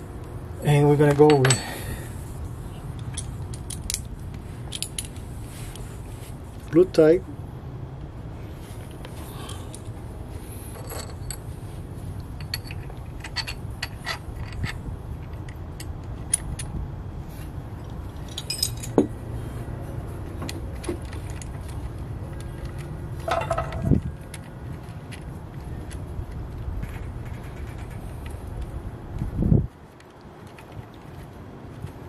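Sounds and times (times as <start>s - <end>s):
steady low rumble: 0.0s - 29.8s.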